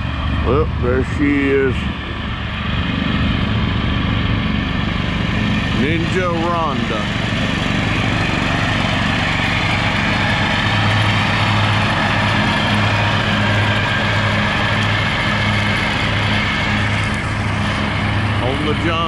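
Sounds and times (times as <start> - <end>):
lawn tractor engine passing: 0.0 - 19.0.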